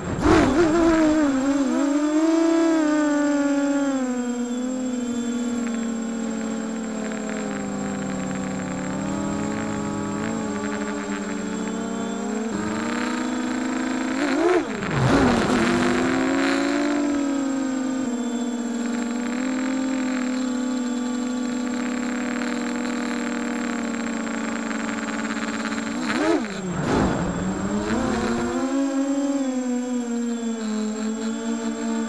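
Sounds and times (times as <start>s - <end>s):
quadcopter motors whining: 0.0s - 32.0s.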